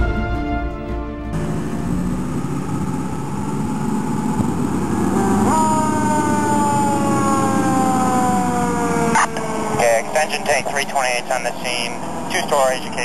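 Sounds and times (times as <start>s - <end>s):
fire engine rumble: 0.0s - 13.0s
fire engine siren: 0.0s - 13.0s.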